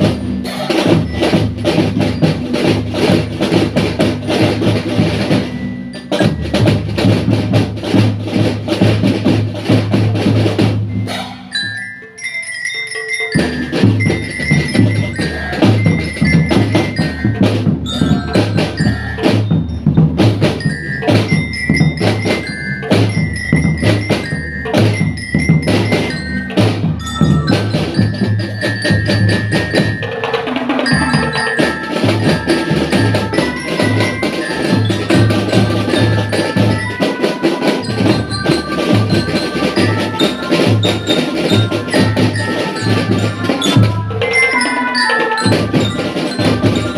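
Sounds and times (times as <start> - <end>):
glockenspiel melody: 0.0 - 8.8, 9.6 - 46.9
marching drums: 0.0 - 11.6, 12.2 - 46.9.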